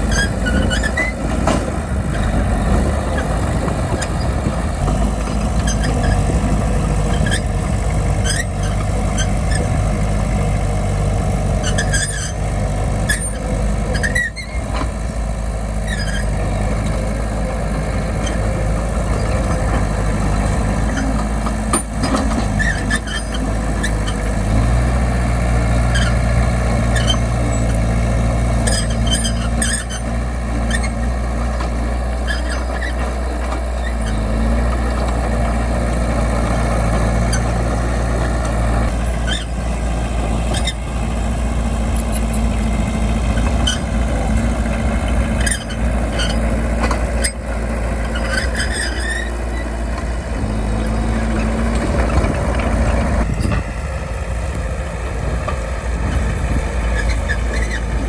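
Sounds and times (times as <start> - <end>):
metallic squeaks and clanks: 0.0 - 10.4, 11.4 - 41.0, 41.8 - 53.8, 55.5 - 58.0
bulldozer diesel engine running: 0.0 - 58.0.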